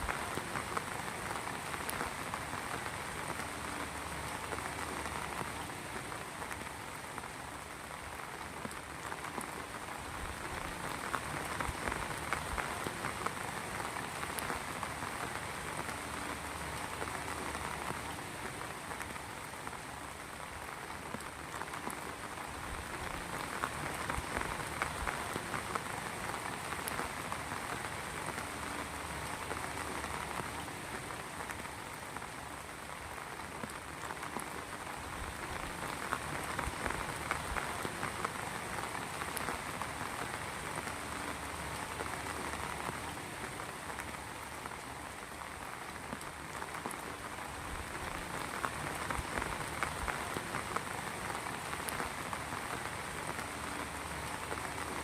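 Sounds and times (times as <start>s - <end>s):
heavy rain patter: 0.0s - 55.0s.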